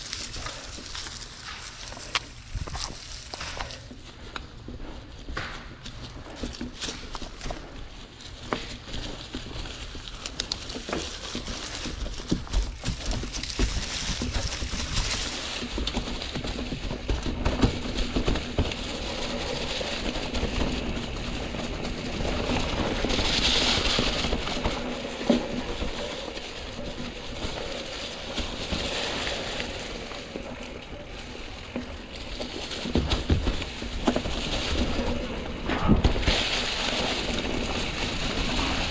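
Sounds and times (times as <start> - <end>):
bike knocking and rattling: 0.0 - 38.9
tyres crackling over dry leaves: 0.0 - 38.9.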